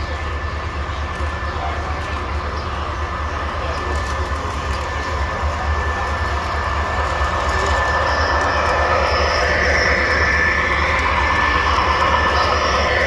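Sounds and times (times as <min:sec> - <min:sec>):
model train whine and rolling wheels: 0:00.0 - 0:13.0.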